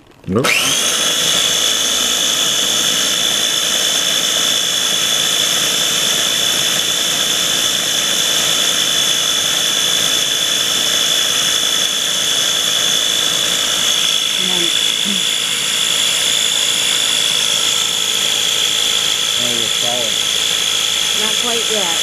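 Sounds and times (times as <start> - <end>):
food processor motor whining: 0.0 - 22.0.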